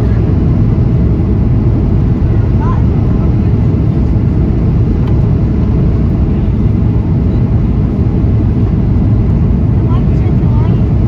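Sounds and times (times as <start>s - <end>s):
airliner cabin rumble in flight: 0.0s - 11.0s.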